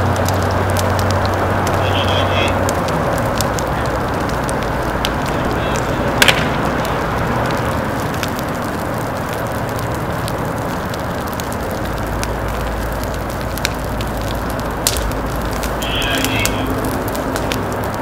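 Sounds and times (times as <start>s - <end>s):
brush and grass crackling: 0.0s - 18.0s
fire rumbling: 0.0s - 18.0s
sharp pops: 0.0s - 18.0s.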